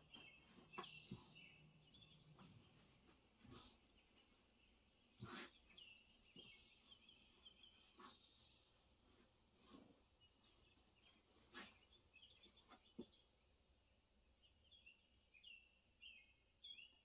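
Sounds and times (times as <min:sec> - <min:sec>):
birdsong from television: 0:00.0 - 0:17.0.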